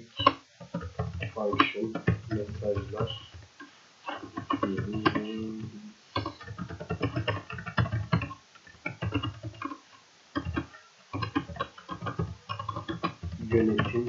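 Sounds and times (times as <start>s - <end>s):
computer keyboard typing: 0.2s - 3.4s, 4.1s - 14.0s.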